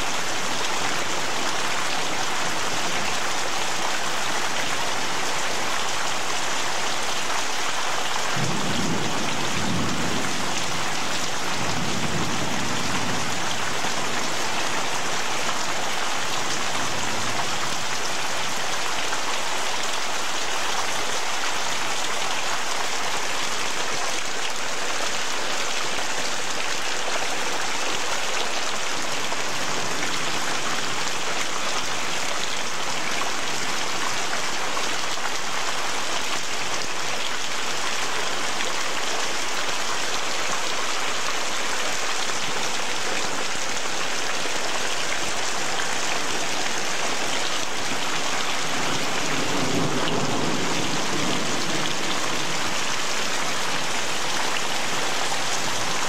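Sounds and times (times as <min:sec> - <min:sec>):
heavy rain on pavement: 0:00.0 - 0:56.0.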